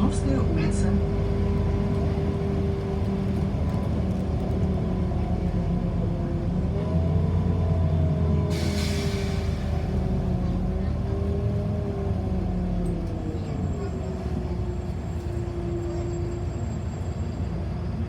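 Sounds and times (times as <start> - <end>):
bus engine rumble and whine: 0.0 - 18.0.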